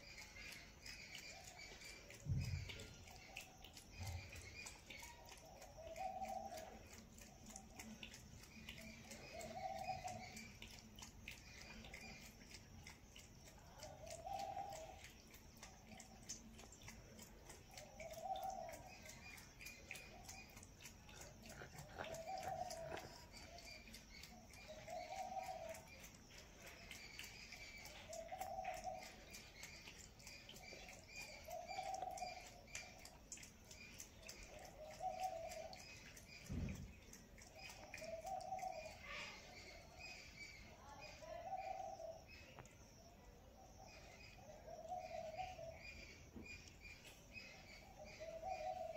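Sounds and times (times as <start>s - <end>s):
cat lapping milk: 0.0s - 39.6s.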